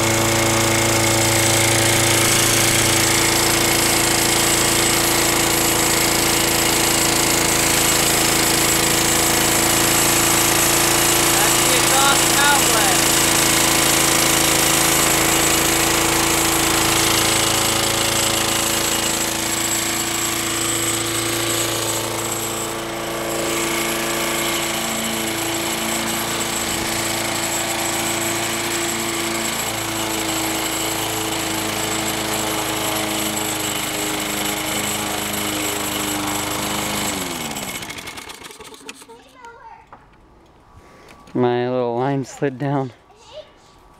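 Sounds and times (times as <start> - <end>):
lawn mower engine running: 0.0 - 39.4.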